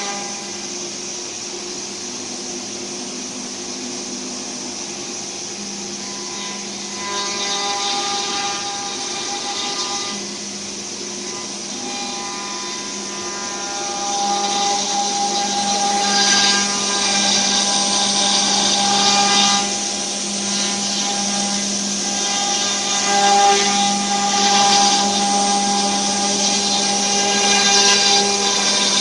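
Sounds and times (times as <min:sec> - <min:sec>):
cutter hissing through wood: 0:00.0 - 0:29.0
wood router spindle whine: 0:00.0 - 0:29.0.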